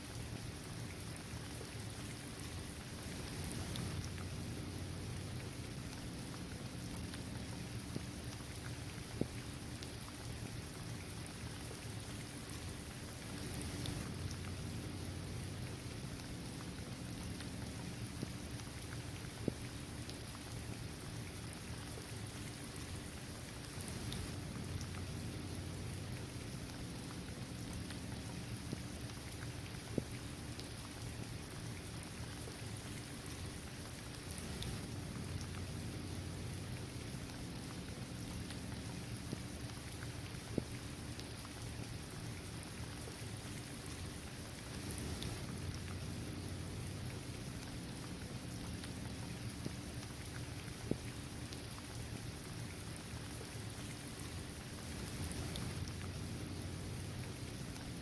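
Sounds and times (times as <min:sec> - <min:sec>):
steady rain on hard court: 0:00.0 - 0:58.0
raindrops ticking: 0:00.3 - 0:11.6, 0:12.4 - 0:53.5, 0:54.2 - 0:58.0.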